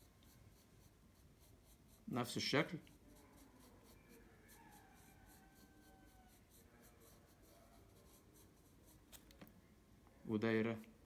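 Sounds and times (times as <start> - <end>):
pencil scratching on paper: 0.0 - 9.2.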